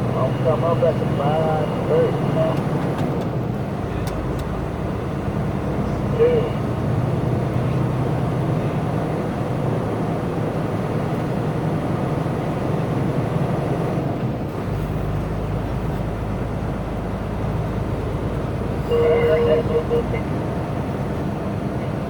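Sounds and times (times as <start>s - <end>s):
car road noise with hiss: 0.0s - 22.0s.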